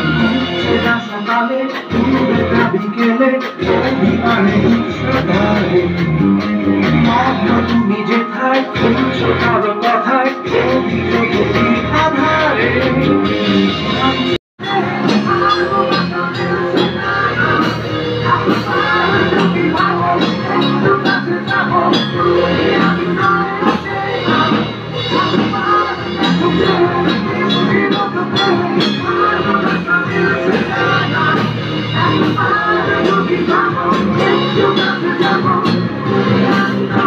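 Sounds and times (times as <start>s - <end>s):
drum kit: 0.0s - 37.0s
electric guitar: 0.0s - 37.0s.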